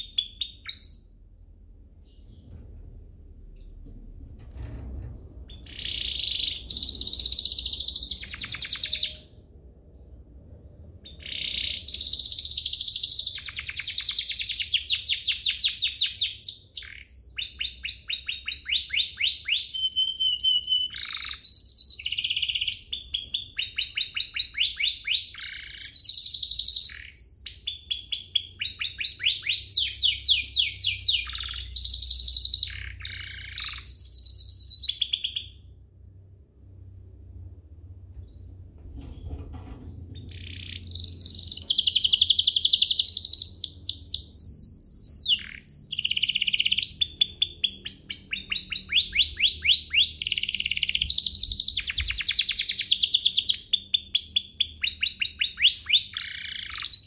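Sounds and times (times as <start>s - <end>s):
canary singing trills: 0.0s - 1.2s, 5.5s - 9.4s, 11.0s - 35.7s, 40.1s - 57.0s.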